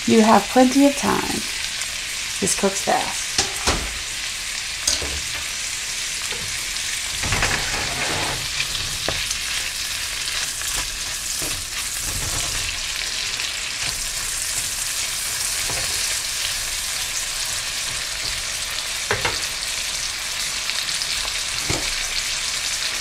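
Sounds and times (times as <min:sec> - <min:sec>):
meat sizzling in a frying pan: 0:00.0 - 0:23.0.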